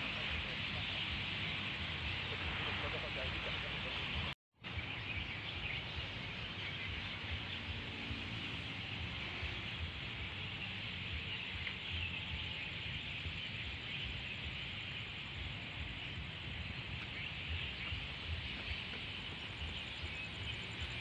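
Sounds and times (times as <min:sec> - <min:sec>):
night insects chirring: 0:00.0 - 0:21.0.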